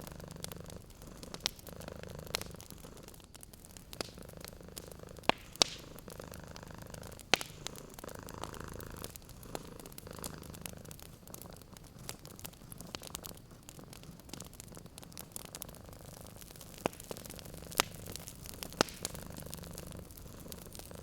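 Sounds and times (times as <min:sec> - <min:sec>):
cat purring: 0:00.0 - 0:21.0
wood fire crackling and popping: 0:00.0 - 0:21.0.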